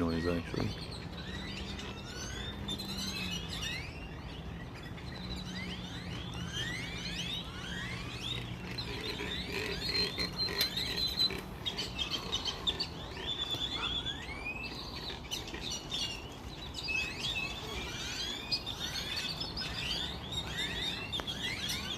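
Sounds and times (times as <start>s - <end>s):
flock of small birds chirping: 0.0s - 21.9s.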